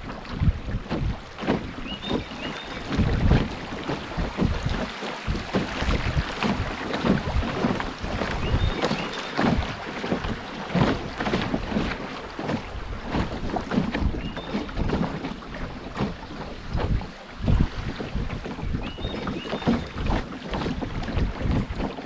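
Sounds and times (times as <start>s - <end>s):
water splashing around canoe: 0.0s - 22.0s
wind rumbling on microphone: 0.0s - 22.0s.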